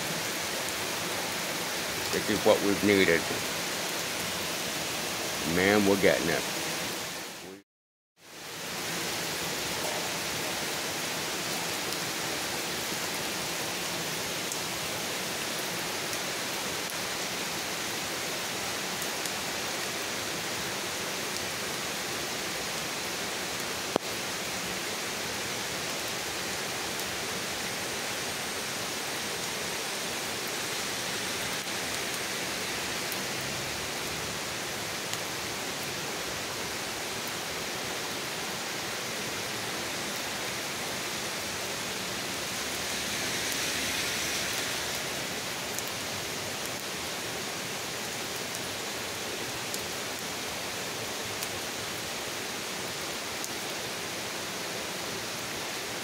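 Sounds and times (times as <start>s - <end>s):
heavy rain falling: 0.0s - 7.6s, 8.3s - 56.0s.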